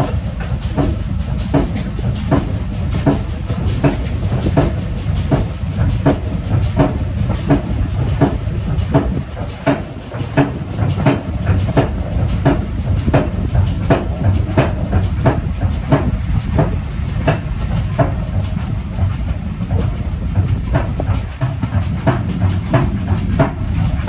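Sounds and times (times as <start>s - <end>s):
steam train rumbling with beats: 0.0s - 24.0s.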